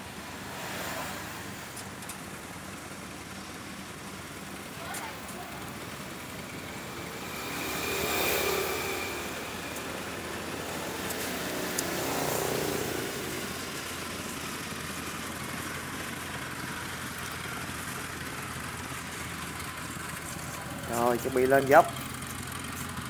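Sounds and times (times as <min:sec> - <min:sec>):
tracked machine engine running: 0:00.0 - 0:23.0.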